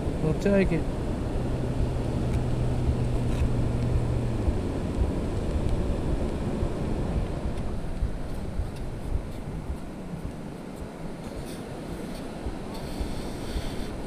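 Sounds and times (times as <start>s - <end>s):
low steady hum: 0.0s - 14.0s
wind noise on microphone: 0.0s - 14.0s.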